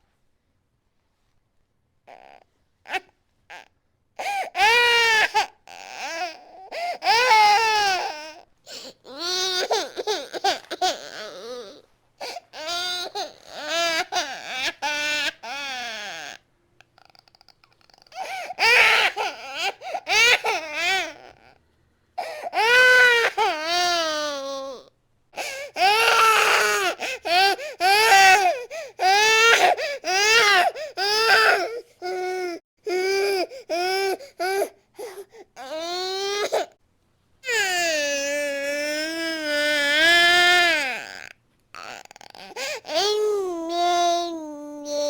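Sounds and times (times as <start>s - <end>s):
baby crying hard: 4.2s - 16.4s, 18.1s - 21.5s, 22.2s - 24.8s, 25.4s - 36.7s, 37.4s - 45.0s.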